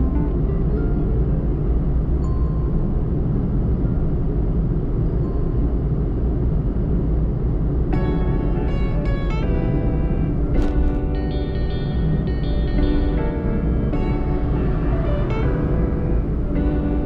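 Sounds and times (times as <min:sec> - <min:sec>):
car driving on road: 0:00.0 - 0:17.0
faint music notes: 0:00.0 - 0:17.0.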